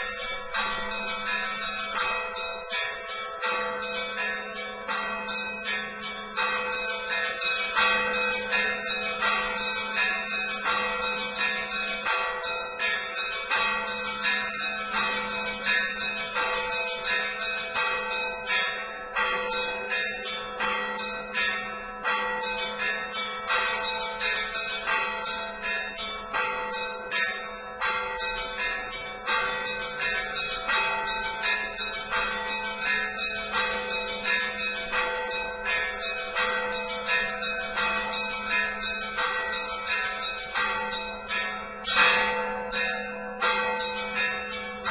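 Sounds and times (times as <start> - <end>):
hum of large bells: 0.0 - 44.9
small church bells striking quickly: 0.0 - 44.9.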